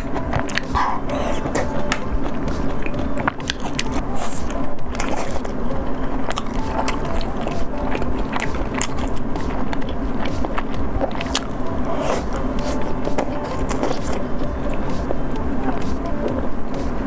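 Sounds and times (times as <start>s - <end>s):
chewing soft food: 0.0s - 17.0s
steady low hum: 0.0s - 17.0s.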